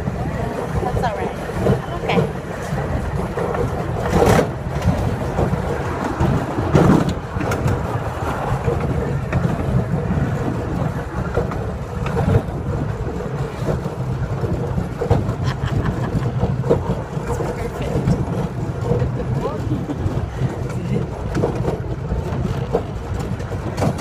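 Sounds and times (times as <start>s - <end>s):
miniature train rumbling and rattling: 0.0s - 24.0s.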